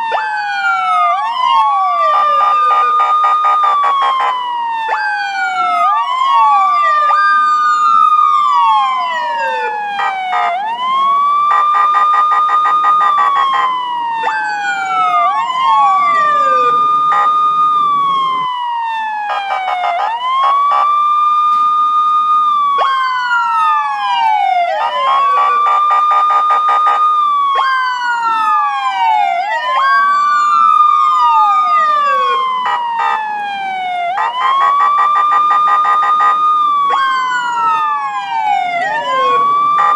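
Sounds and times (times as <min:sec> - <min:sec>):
police siren wailing: 0:00.0 - 0:39.9
second siren sweeping down: 0:00.0 - 0:39.9.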